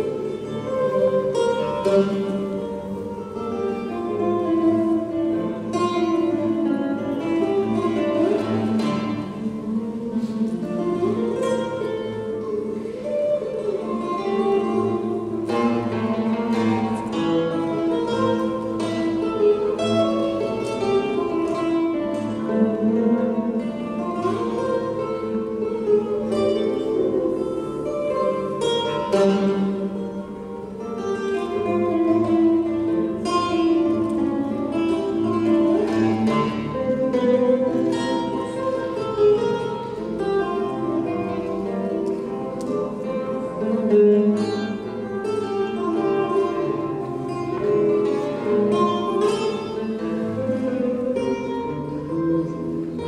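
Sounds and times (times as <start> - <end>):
solo guitar playing: 0.0 - 53.0.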